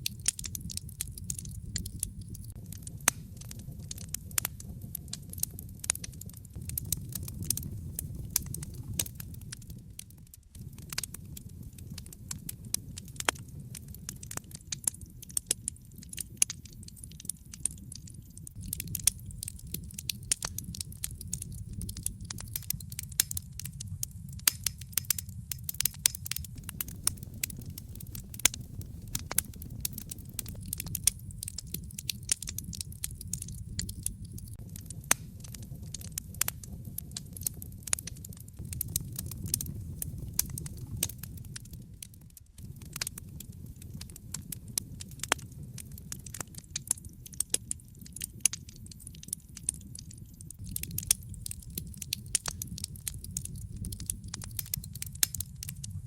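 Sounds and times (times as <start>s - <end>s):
low rumble of burning: 0.0s - 56.0s
wood fire crackling and popping: 0.0s - 56.0s.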